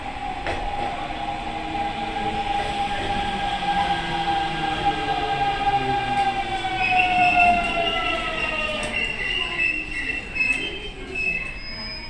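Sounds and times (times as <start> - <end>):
train running noise: 0.0 - 11.8.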